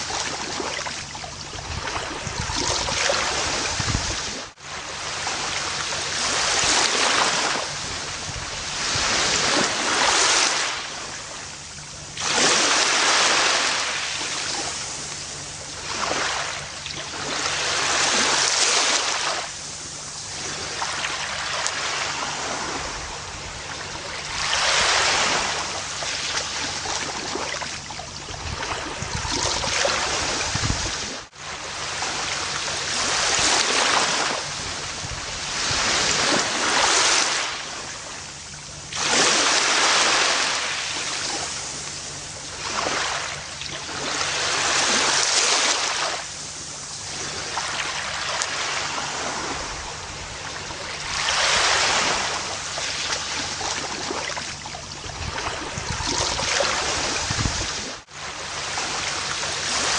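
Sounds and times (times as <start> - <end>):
ocean waves washing onto beach: 0.0 - 59.9.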